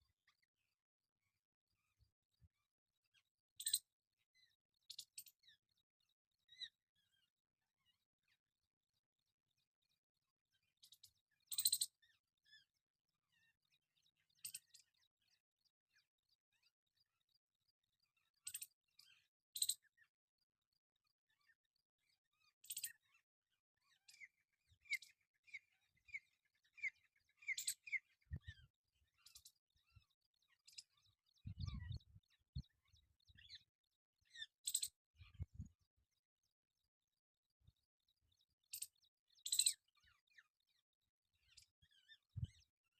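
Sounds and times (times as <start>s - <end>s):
faint bird chirps: 0.0s - 42.9s.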